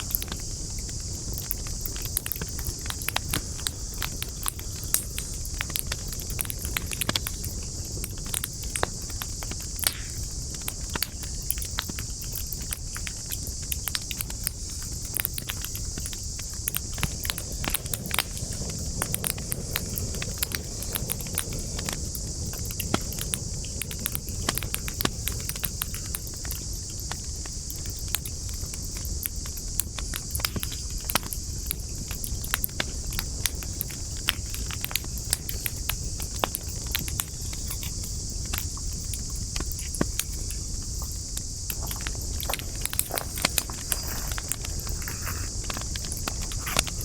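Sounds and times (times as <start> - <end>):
campfire crackling and popping: 0.0 - 47.0
insect chorus: 0.0 - 47.0.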